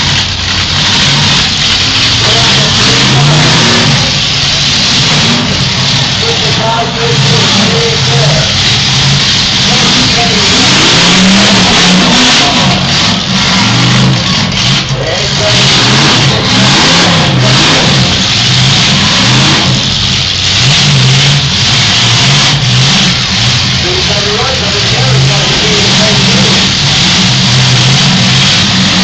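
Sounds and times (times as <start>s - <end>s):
car engines revving: 0.0s - 29.0s
cars ramming each other: 0.0s - 29.0s
dense wash of engine noise: 0.0s - 29.0s.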